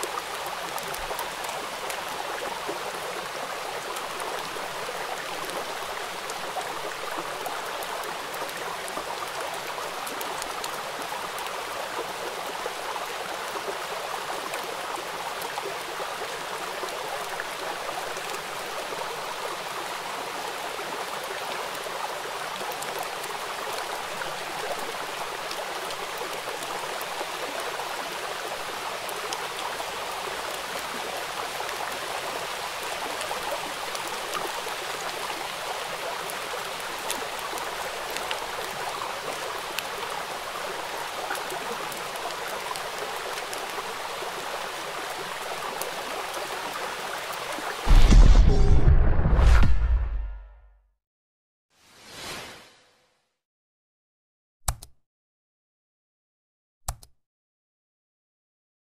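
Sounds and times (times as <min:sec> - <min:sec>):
rain falling on water: 0:00.0 - 0:47.9.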